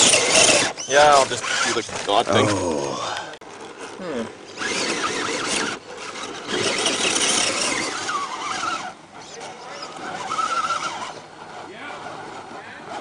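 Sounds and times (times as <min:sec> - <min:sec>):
rc truck motor whining: 0:00.0 - 0:02.2, 0:03.5 - 0:13.0.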